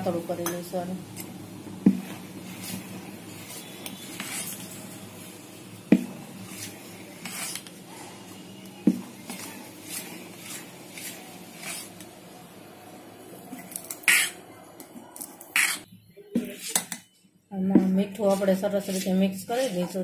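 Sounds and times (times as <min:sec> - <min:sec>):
spoon stirring thick batter: 0:00.4 - 0:20.0.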